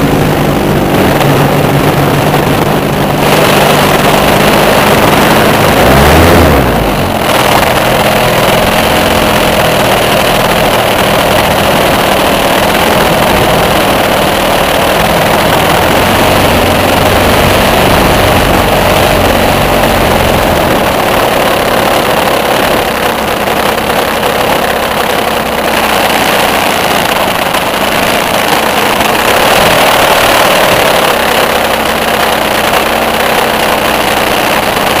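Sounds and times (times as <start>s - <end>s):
model plane motor and propeller: 0.0s - 35.0s
wind rushing over microphone: 0.0s - 35.0s.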